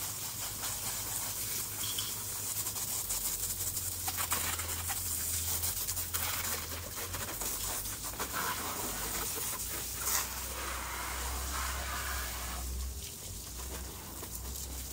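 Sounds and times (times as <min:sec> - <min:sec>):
hose water spraying and splashing: 0:00.0 - 0:14.9.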